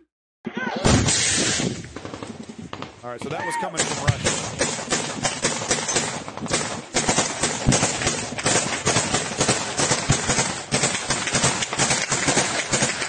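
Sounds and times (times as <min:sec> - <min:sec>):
gunfire: 0:00.6 - 0:13.0.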